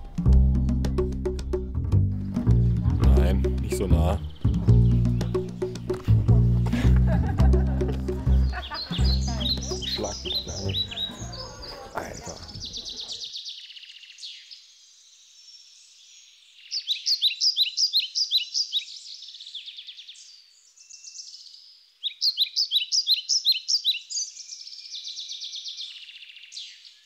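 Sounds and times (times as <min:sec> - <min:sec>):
high chirping background: 0:00.0 - 0:27.0
songbird singing: 0:00.0 - 0:27.0.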